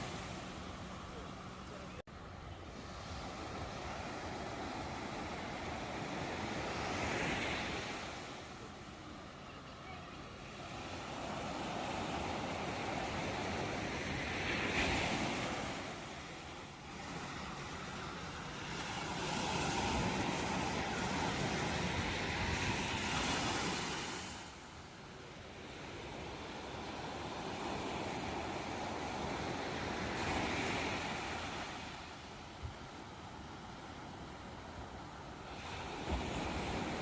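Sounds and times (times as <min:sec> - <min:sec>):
ocean waves breaking on shore: 0:00.0 - 0:37.0.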